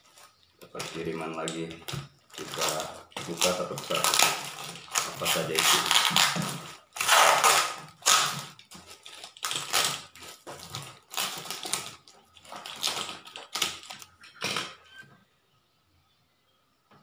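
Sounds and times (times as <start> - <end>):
plastic packaging crinkling and tearing: 0.0 - 14.2.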